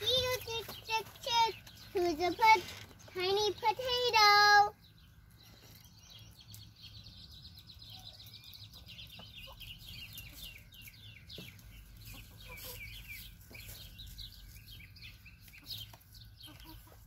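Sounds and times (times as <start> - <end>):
chickens chirping: 0.0 - 17.0.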